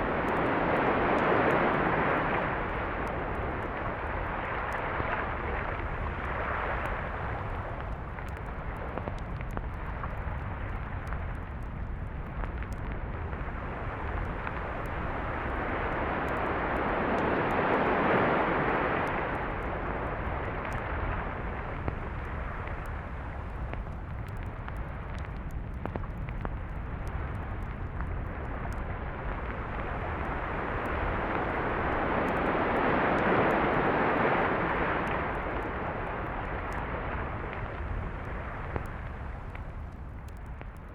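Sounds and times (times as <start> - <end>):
low rumble of surf: 0.0 - 40.9.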